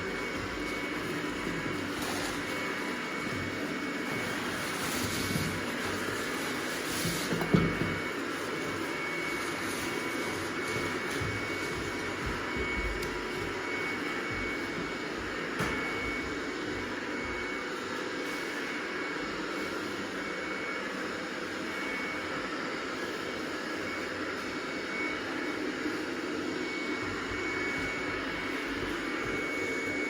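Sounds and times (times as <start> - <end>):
robot vacuum cleaner whirring: 0.0 - 30.0.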